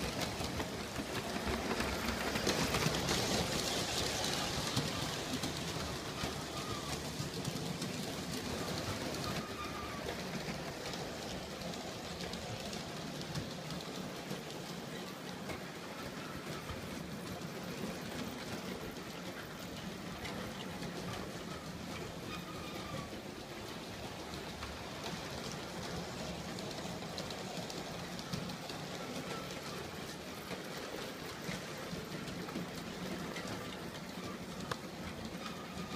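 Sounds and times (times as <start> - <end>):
model train whirring on track: 0.0 - 35.9.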